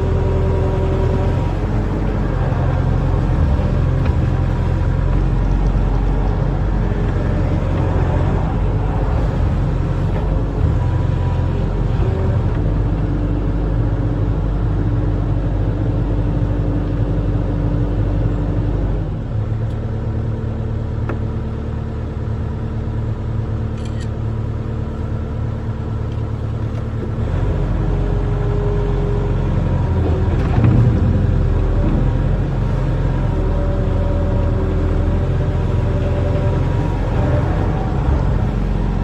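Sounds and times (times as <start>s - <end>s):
excavator diesel engine rumbling: 0.0s - 39.0s.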